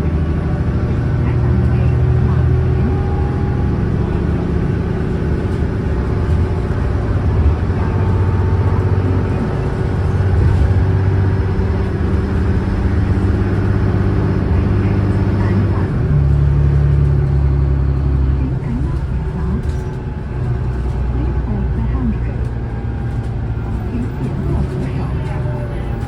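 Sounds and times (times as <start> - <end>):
diesel bus engine running: 0.0 - 26.0.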